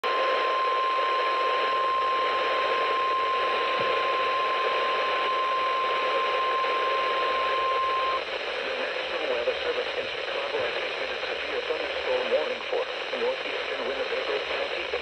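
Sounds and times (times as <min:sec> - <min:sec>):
radio hiss: 0:00.0 - 0:15.0.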